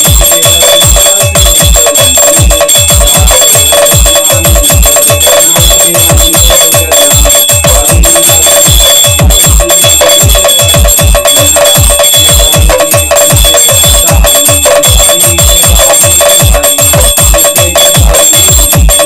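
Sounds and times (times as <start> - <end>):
electronic bass-drum beat: 0.0 - 19.0
ringing bell tones: 0.0 - 19.0.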